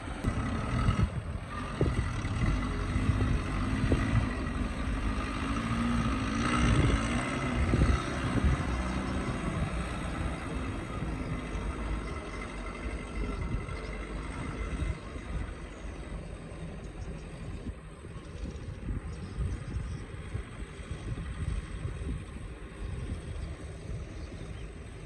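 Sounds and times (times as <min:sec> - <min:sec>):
excavator diesel engine under load: 0:00.0 - 0:25.0.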